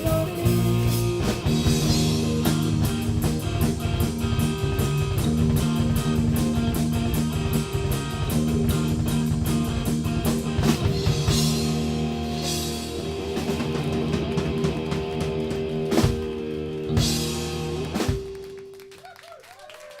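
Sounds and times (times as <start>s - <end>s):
drum and cymbal hits: 0.0s - 18.6s
rock band playing: 0.0s - 19.0s.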